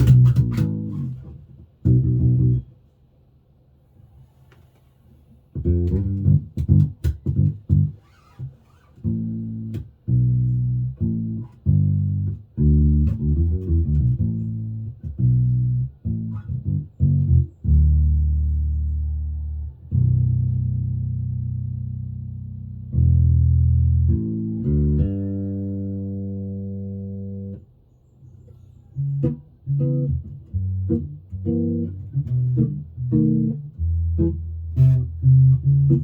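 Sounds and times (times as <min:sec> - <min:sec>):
electric bass plucked notes: 0:00.0 - 0:02.8, 0:05.5 - 0:27.7, 0:29.0 - 0:36.0.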